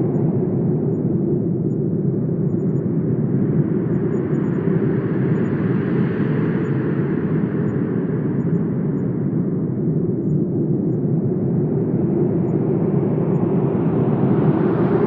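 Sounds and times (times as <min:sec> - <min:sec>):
rushing wind with deep rumble: 0:00.0 - 0:15.0.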